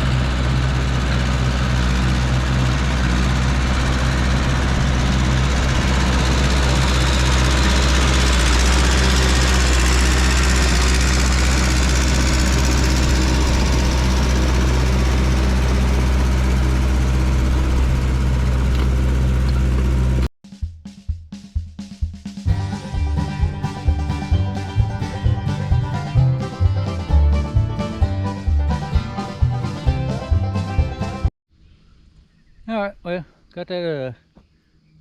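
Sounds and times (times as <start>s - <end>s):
dozer engine running under load: 0.0s - 20.3s, 22.5s - 31.3s.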